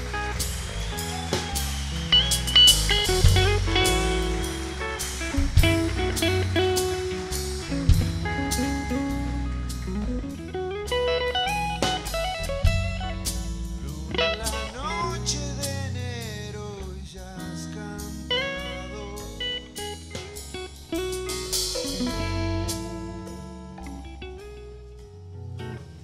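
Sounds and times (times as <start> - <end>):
electric guitar lead lines: 0.0 - 16.7, 17.3 - 26.0
drums: 0.0 - 24.0
bass guitar: 0.0 - 26.0.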